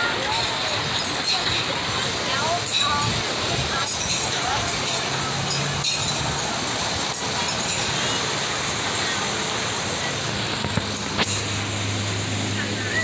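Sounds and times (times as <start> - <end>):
busy park walkway ambience: 0.0 - 13.0.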